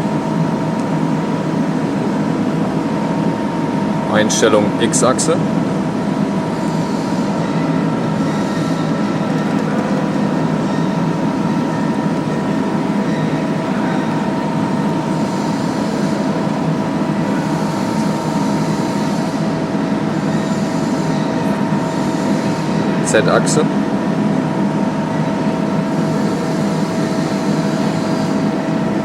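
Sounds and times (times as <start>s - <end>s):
motor hum with whining tones: 0.0s - 29.0s.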